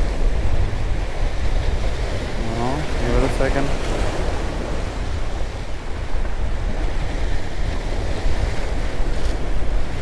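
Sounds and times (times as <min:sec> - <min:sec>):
sea waves breaking on rocks: 0:00.0 - 0:10.0
wind buffeting microphone: 0:00.0 - 0:10.0.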